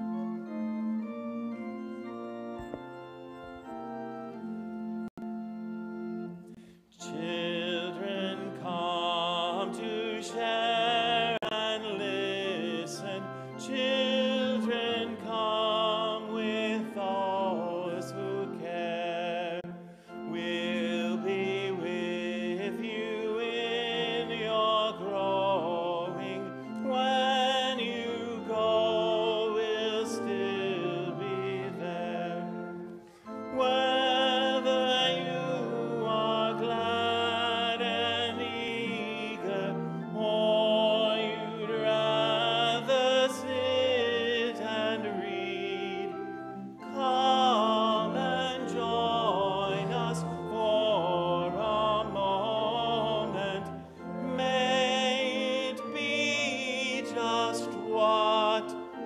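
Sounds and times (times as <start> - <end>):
organ playing held chords: 0.0 - 59.0
voices singing a hymn: 7.0 - 59.0.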